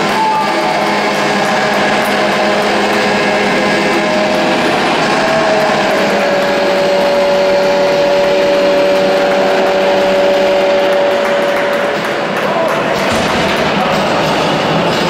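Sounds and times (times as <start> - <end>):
goal horn long tone: 0.0 - 15.0
loud rushing noise: 0.0 - 15.0.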